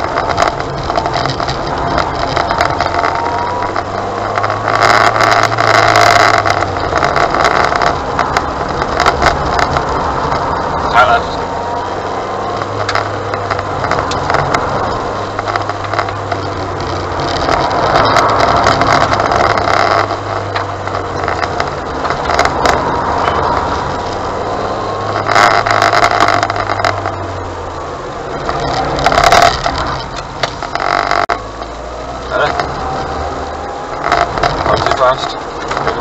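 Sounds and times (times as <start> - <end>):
car engine hum: 0.0 - 36.0
road and tyre noise: 0.0 - 36.0.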